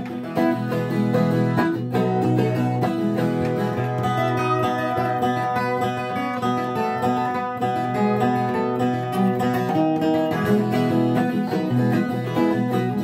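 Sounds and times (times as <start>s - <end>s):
ten-string guitar playing: 0.0s - 13.0s.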